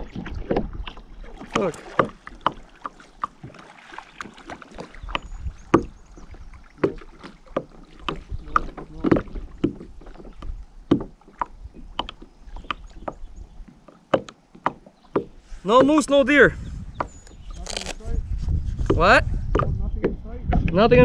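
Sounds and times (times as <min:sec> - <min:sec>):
paddle splashing in water: 0:00.0 - 0:20.2
paddle knocking against kayak: 0:00.0 - 0:20.8.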